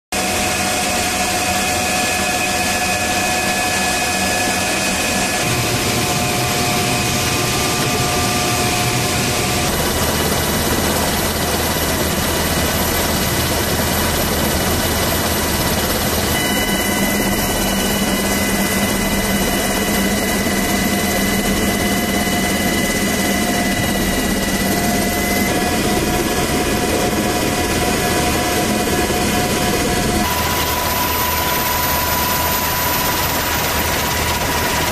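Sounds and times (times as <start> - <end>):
helicopter turbine engines whining: 0.2 - 34.9.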